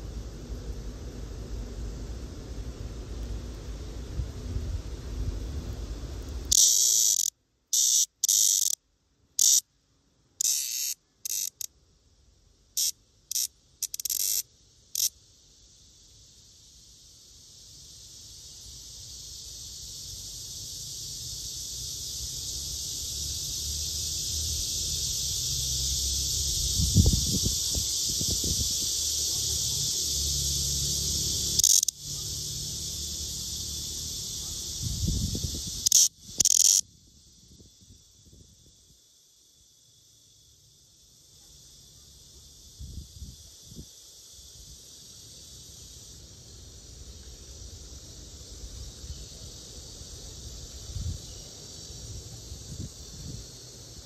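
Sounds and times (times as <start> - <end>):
cicada buzzing: 0.0 - 9.7, 10.4 - 11.8, 12.6 - 54.0.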